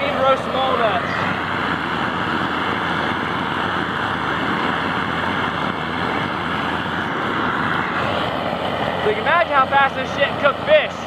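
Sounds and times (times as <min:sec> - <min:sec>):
burner jet rushing: 0:00.0 - 0:11.0.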